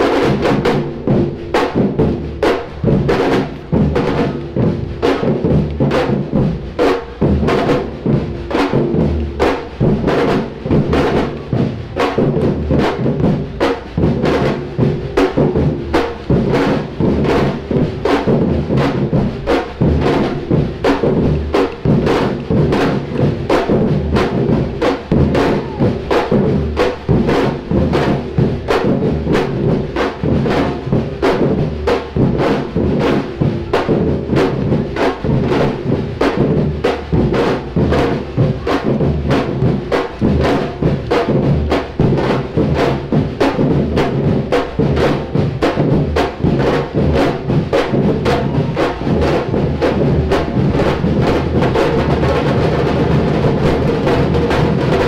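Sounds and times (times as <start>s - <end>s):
drum ensemble playing: 0.0s - 55.0s.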